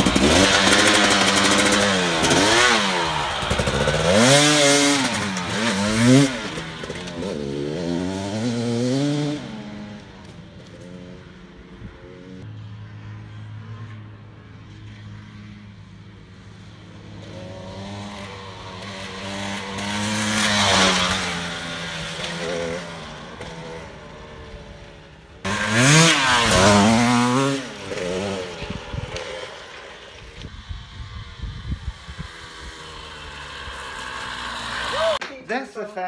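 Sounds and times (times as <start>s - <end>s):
dirt bike engine revving: 0.0s - 12.4s, 16.9s - 30.5s, 31.6s - 35.2s.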